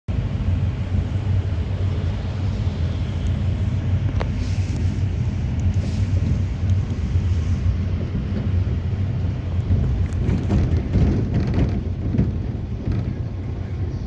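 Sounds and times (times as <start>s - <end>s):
minibus engine and road noise: 0.1s - 14.0s.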